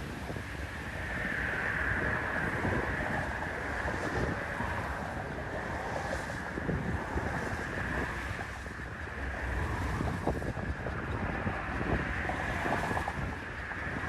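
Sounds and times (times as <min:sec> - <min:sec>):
storm wind buffeting microphone: 0:00.0 - 0:14.0
waves washing: 0:00.0 - 0:14.0.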